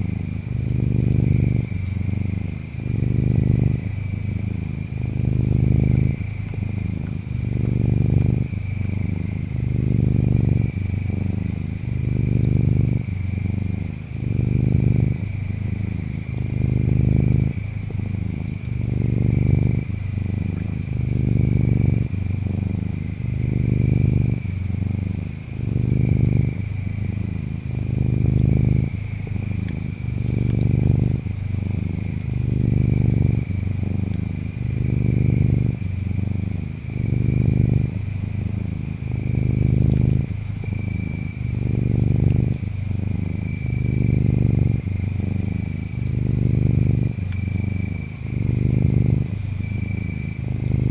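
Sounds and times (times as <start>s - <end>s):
cat purring: 0.0s - 50.9s
high insect chirps: 0.0s - 50.9s
high insect trill: 0.0s - 50.9s.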